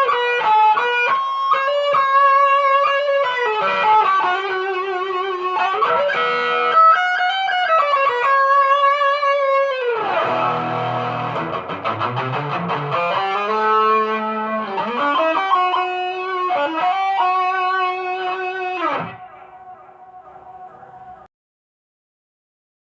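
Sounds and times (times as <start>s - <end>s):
electric guitar lead line: 0.0s - 21.3s.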